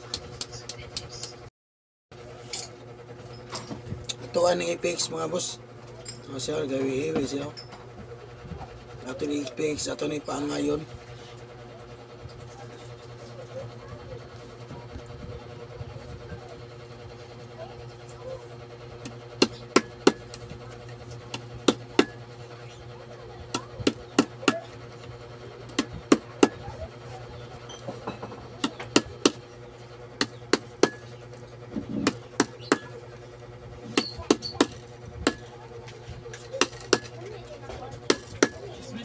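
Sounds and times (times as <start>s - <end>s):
steady low hum: 2.2s - 39.0s.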